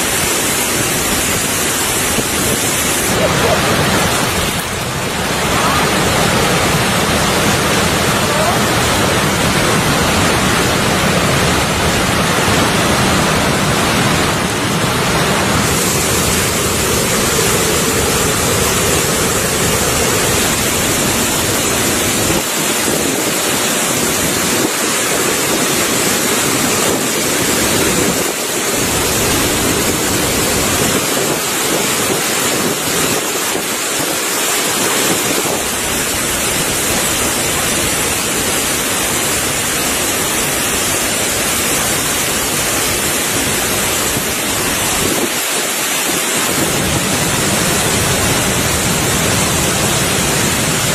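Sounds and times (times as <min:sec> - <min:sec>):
fast-flowing stream: 0:00.0 - 0:50.9
waterfall rushing: 0:00.0 - 0:50.9.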